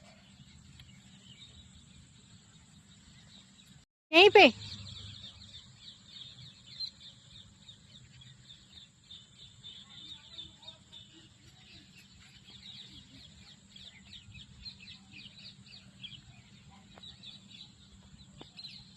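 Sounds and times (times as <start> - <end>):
faint birds chirping: 0.0 - 18.9.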